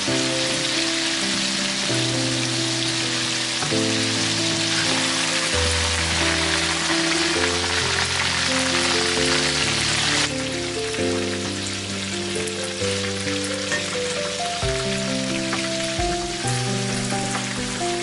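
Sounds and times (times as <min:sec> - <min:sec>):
deep-frying oil sizzle: 0:00.0 - 0:18.0.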